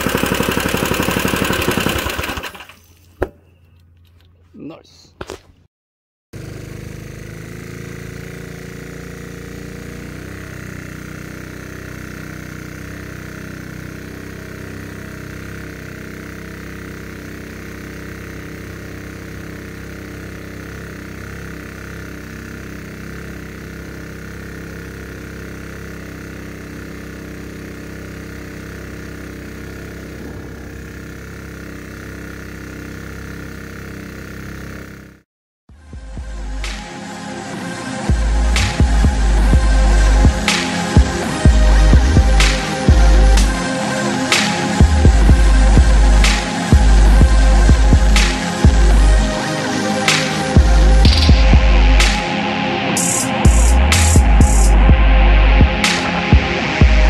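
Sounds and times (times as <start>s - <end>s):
small engine running at full throttle: 0.0s - 2.9s, 6.3s - 57.0s.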